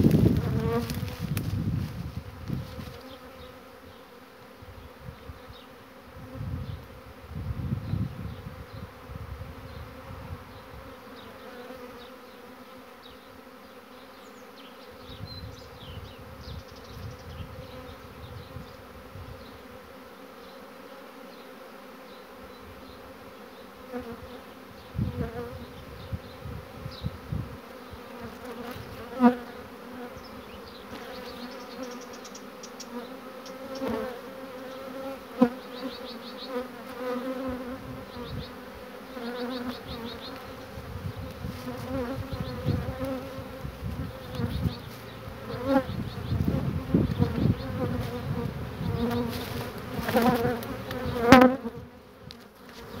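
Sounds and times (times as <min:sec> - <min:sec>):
bee swarm buzzing: 0:00.0 - 0:53.0
single bees buzzing close: 0:00.0 - 0:53.0.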